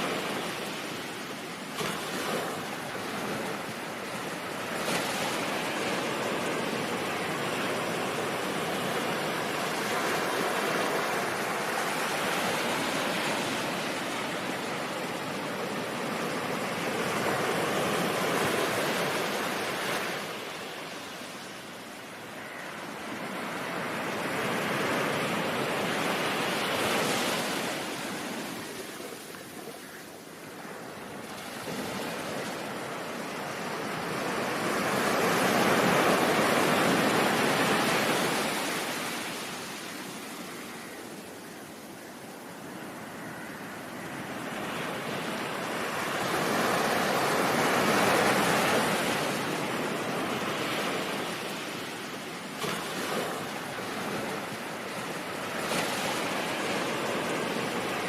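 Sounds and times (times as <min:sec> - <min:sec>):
ocean waves washing: 0:00.0 - 0:58.0.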